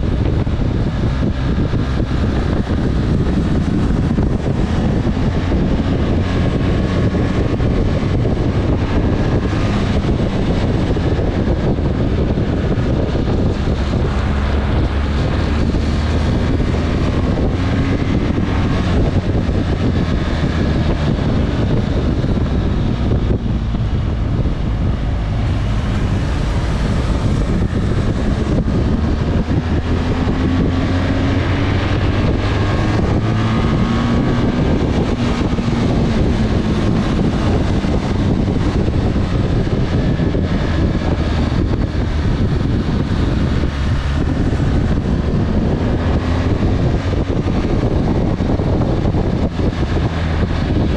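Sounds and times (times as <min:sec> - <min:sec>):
motorcycle engine running: 0:00.0 - 0:50.9
wind rushing over microphone: 0:00.0 - 0:50.9.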